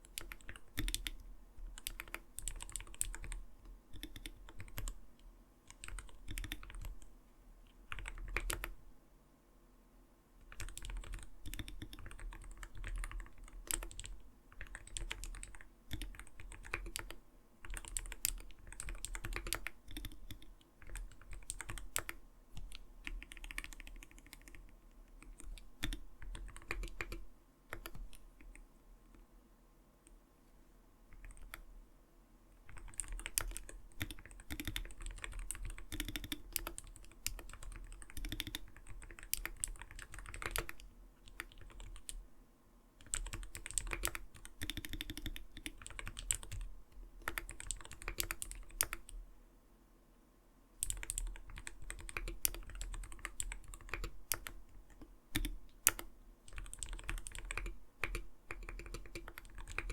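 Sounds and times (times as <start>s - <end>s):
mechanical keyboard typing: 0.0s - 5.0s, 5.7s - 7.1s, 7.9s - 8.8s, 10.4s - 28.6s, 31.1s - 31.7s, 32.6s - 42.2s, 43.0s - 49.2s, 50.8s - 59.9s.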